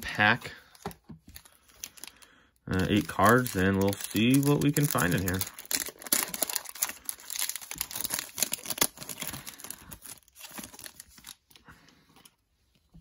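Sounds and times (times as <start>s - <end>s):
foil card pack crinkling and tearing: 0.0s - 11.6s.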